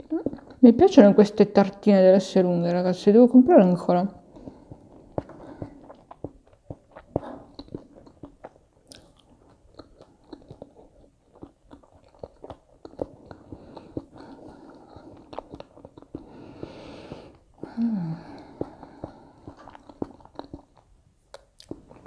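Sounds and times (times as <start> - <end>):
person chewing food: 0.0 - 1.0, 4.2 - 22.0.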